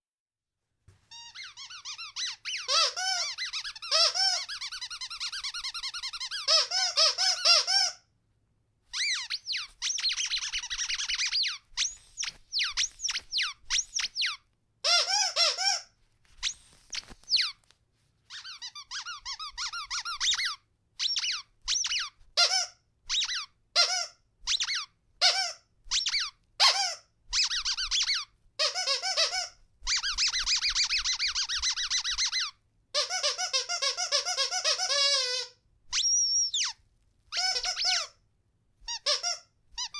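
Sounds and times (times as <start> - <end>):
squeaky dog toy squeaking: 1.1 - 8.1, 8.9 - 17.6, 18.3 - 38.2, 38.8 - 39.9.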